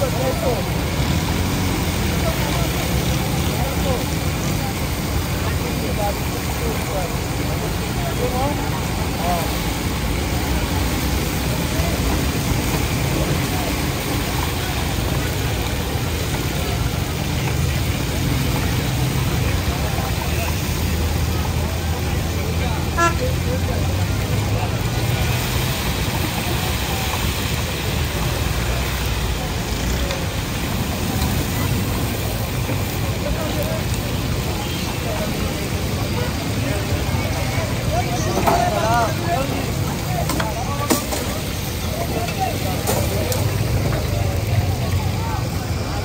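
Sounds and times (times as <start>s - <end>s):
fish sizzling in hot oil: 0.0s - 45.8s
background chatter: 0.0s - 46.0s.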